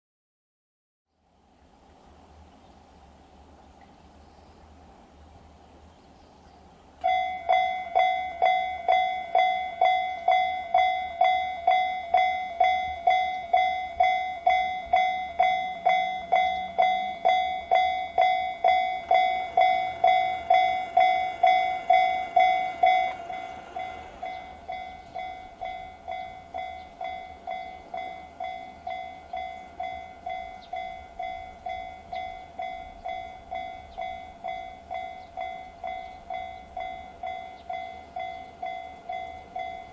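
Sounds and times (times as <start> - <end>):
level crossing bell dinging: 7.0 - 39.9.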